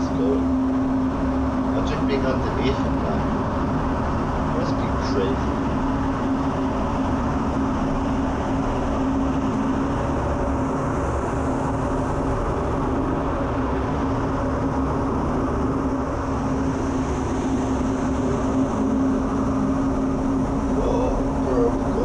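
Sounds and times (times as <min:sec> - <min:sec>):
constant low hum: 0:00.0 - 0:22.0
jet engine and rushing air: 0:00.0 - 0:22.0.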